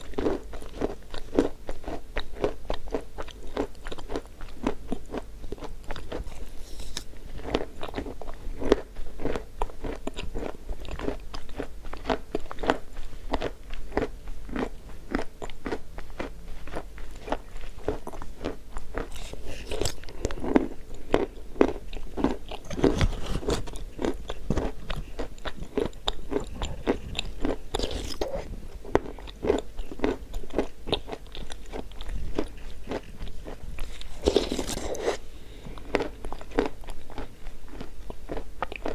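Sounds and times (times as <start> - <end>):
chewing chalk crunches: 0.0 - 35.2, 35.8 - 38.9.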